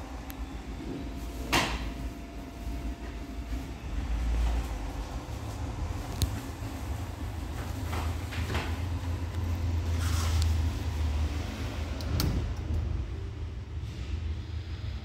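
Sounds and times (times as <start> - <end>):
bench equipment humming: 0.0 - 13.6.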